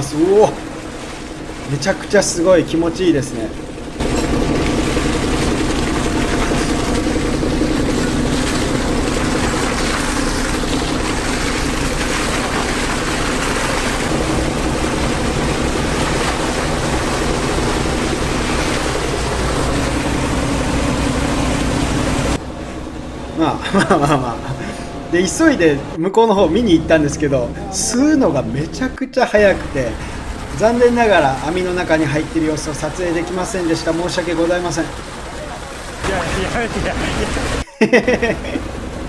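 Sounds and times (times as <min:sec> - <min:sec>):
water gushing from hose: 0:00.0 - 0:22.4, 0:26.6 - 0:39.0
pump machine drone: 0:00.0 - 0:39.0.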